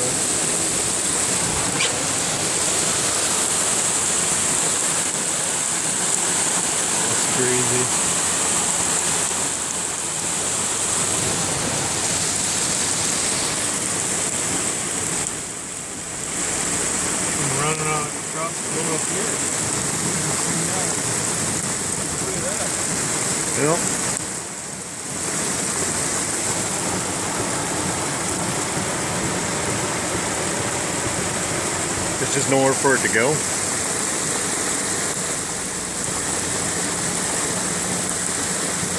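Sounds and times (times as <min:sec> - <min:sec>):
rushing water in heavy rain: 0:00.0 - 0:38.9.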